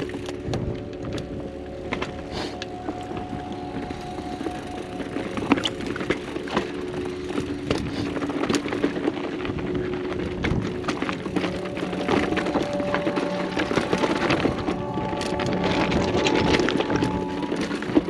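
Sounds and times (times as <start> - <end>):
mountain bike rattling: 0.0 - 18.0
steady buzzing tone: 0.0 - 18.0.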